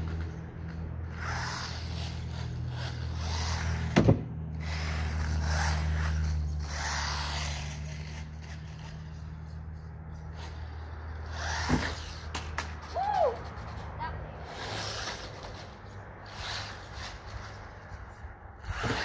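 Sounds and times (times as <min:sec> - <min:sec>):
toy car motor whirring: 0:00.0 - 0:19.0.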